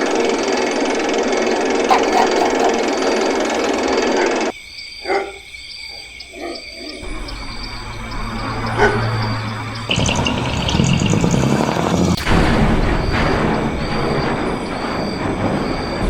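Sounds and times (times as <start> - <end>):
train running noise: 0.0 - 4.5, 7.0 - 16.0.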